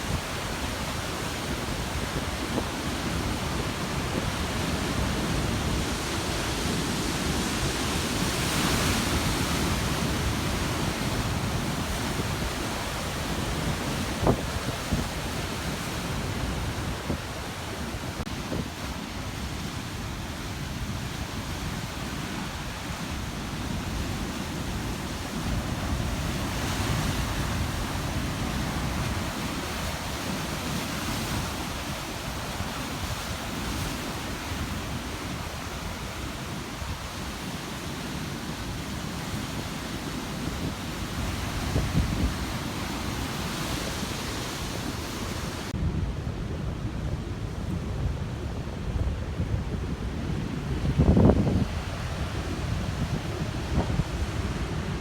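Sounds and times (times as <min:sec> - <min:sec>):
ocean surf crashing on rocks: 0:00.0 - 0:55.0
wind rumbling on microphone: 0:00.0 - 0:55.0.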